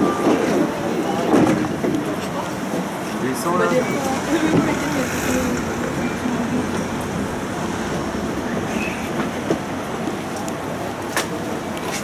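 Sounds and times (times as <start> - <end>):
tram rolling on rails: 0.0 - 12.0.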